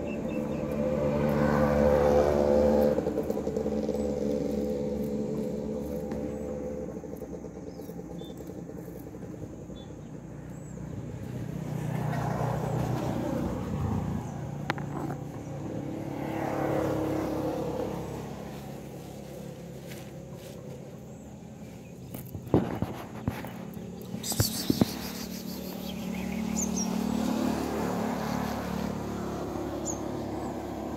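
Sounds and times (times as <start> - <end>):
traffic engine hum: 0.0 - 30.9.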